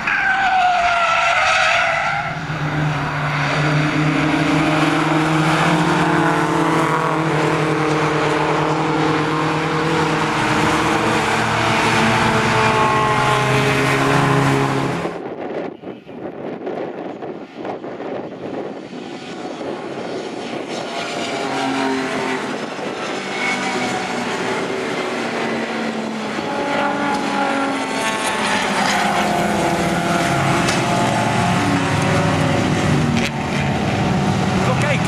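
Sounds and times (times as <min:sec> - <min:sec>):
racing car engines passing: 0:00.0 - 0:15.3, 0:18.4 - 0:35.0.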